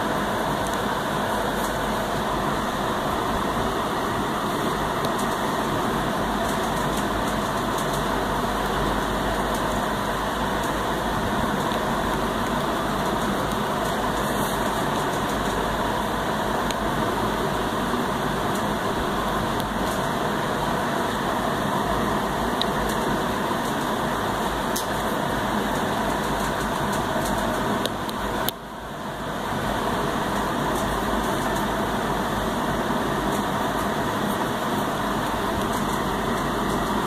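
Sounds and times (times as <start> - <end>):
steady background hum and hiss: 0.0 - 37.0.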